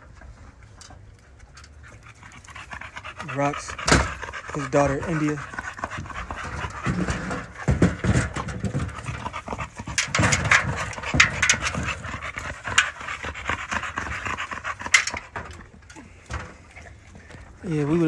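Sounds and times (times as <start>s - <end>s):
dog panting: 1.6s - 18.0s.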